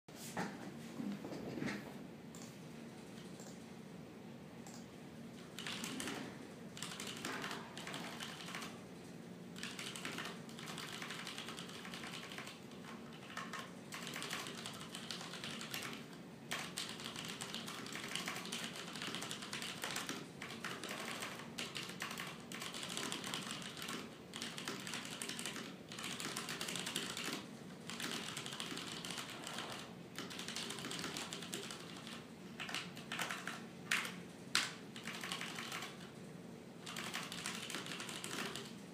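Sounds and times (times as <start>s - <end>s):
fast typing on mechanical keyboard: 5.4s - 8.8s, 9.5s - 36.2s, 36.8s - 38.8s.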